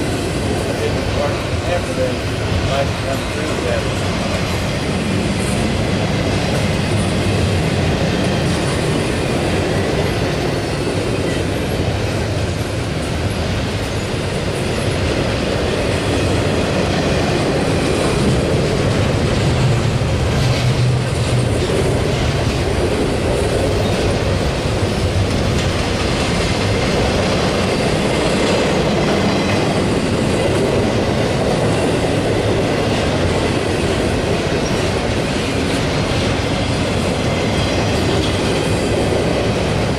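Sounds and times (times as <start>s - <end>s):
clickety-clack over rail joints: 0.0s - 39.9s
train wheels on rail: 0.0s - 39.9s.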